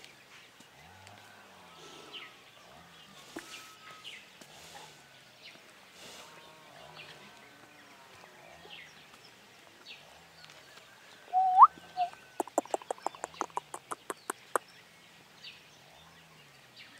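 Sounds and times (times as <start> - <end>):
small birds chirping: 1.8 - 16.9.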